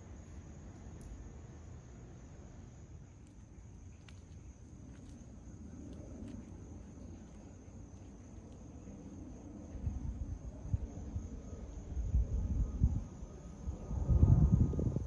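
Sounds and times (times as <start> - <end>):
distant jet airliner rumble: 0.0 - 15.0
insects trilling: 0.0 - 15.0.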